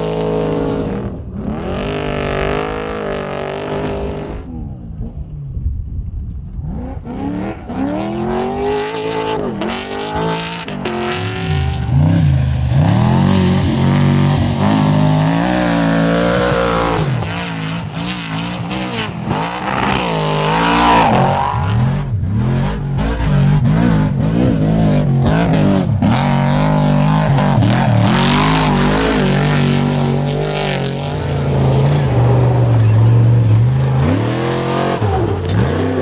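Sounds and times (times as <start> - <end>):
truck engine revving hard: 0.0 - 4.6, 6.6 - 36.0.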